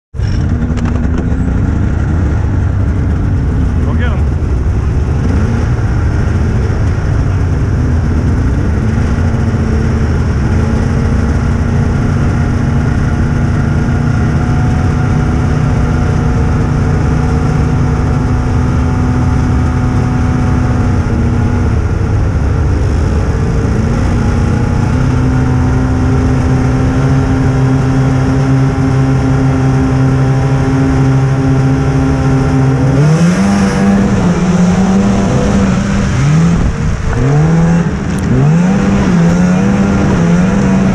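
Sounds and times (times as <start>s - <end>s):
snowmobile engines revving: 0.2s - 40.9s
snowmobile engines running: 0.2s - 40.9s.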